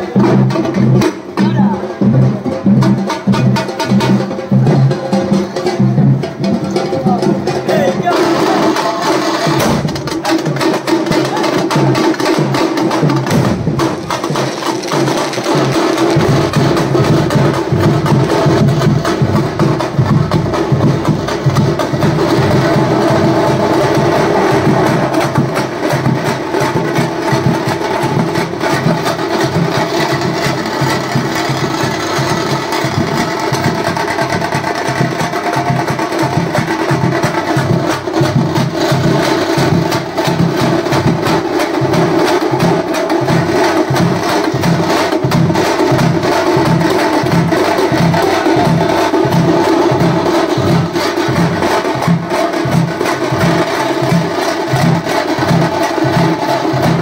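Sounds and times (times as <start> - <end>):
deep drum beat: 0.0 - 57.0
drum troupe playing fast rhythm: 0.0 - 57.0.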